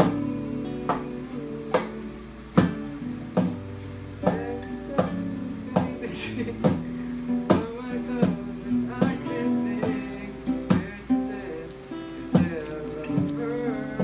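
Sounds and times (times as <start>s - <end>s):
cajon hits: 0.0s - 11.2s, 12.2s - 14.0s
acoustic guitar chords: 0.0s - 14.0s.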